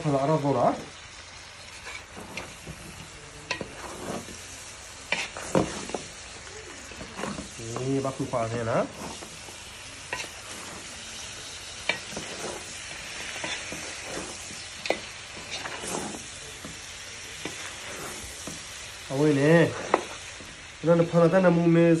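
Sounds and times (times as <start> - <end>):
food sizzling in a wok: 0.0 - 22.0
spatula stirring and scraping: 0.2 - 21.5.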